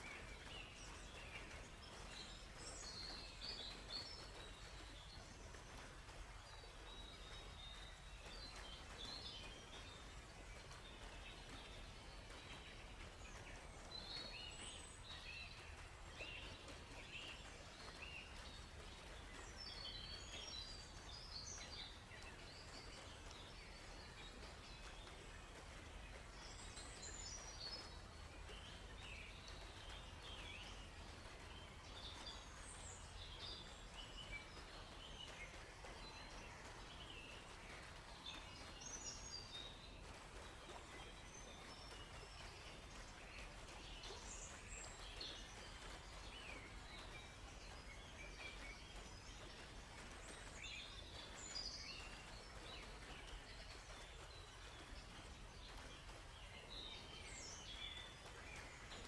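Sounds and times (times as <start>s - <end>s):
birds chirping and twittering: 0.0s - 59.0s
faint background hiss: 0.0s - 59.0s.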